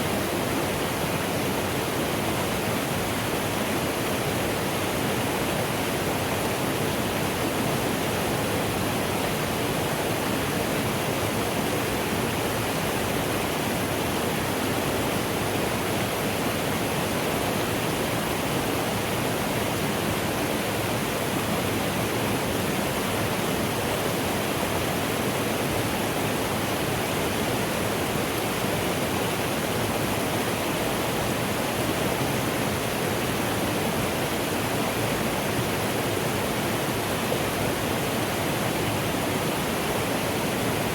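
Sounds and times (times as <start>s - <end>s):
stream rushing water: 0.0s - 40.9s.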